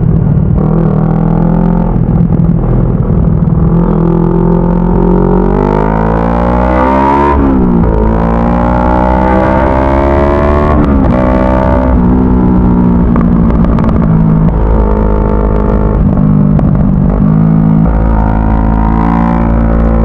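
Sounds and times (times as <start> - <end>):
motorcycle engine under throttle: 0.0 - 20.0.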